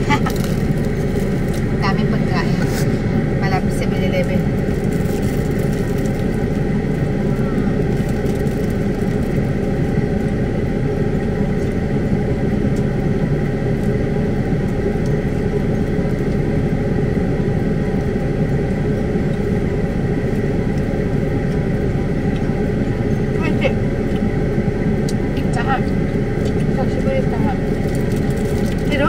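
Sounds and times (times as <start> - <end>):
faint steady hum: 0.0 - 29.0
vehicle engine low rumble: 0.0 - 29.0.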